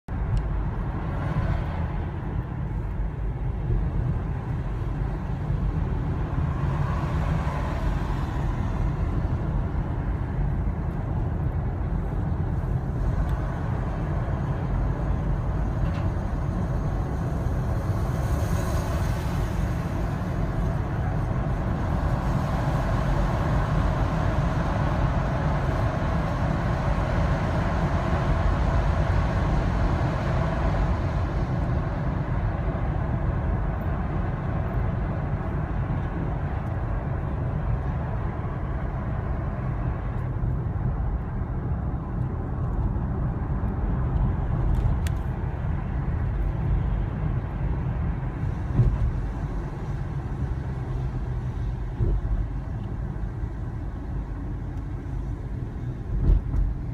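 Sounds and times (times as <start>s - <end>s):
car engine and tyres rumbling: 0.0s - 56.9s.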